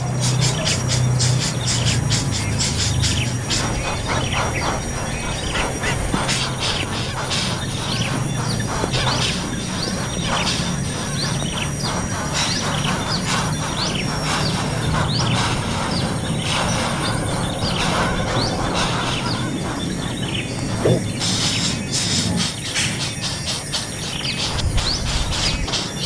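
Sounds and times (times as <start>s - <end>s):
nestling birds chirping: 0.0s - 26.0s
steady low hum: 0.0s - 26.0s.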